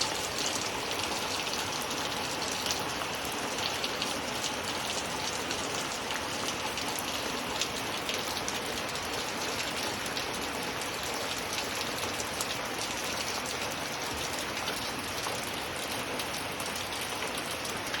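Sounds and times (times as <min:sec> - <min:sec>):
raindrops ticking: 0:00.0 - 0:18.0
steady rain: 0:00.0 - 0:18.0.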